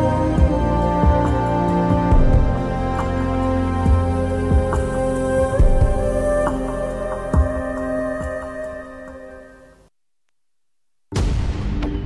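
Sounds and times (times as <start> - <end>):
instrumental music with held notes: 0.0 - 9.9.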